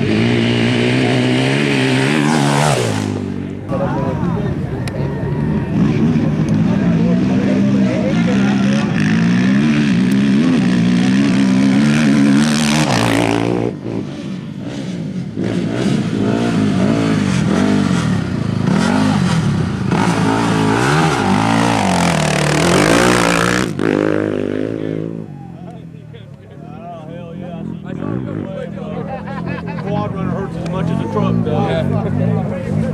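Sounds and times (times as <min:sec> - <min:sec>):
motorcycle engines revving past: 0:00.0 - 0:25.8, 0:27.1 - 0:32.9.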